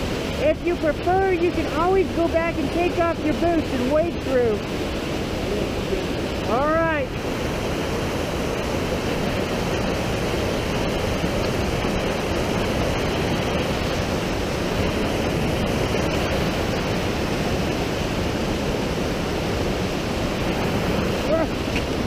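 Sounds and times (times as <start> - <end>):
creek rushing over boulders: 0.0 - 22.0.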